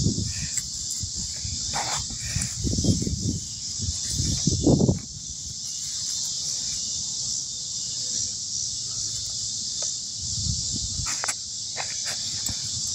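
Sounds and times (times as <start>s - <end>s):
insect chorus: 0.0s - 12.9s.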